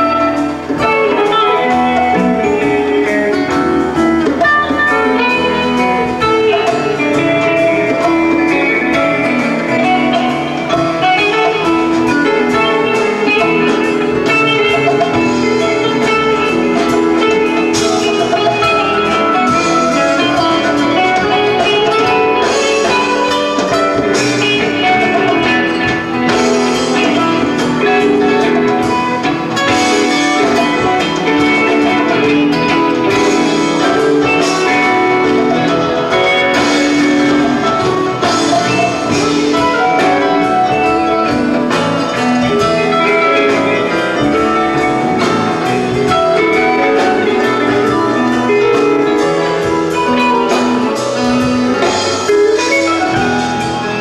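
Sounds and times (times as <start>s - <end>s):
drums: 0.0s - 54.0s
electric guitars: 0.0s - 54.0s
hand percussion: 0.0s - 54.0s
keyboards: 0.0s - 54.0s.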